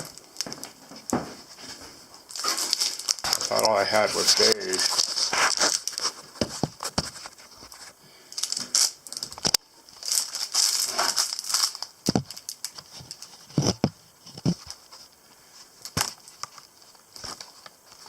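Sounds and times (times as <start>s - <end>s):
crinkling: 0.0s - 18.0s.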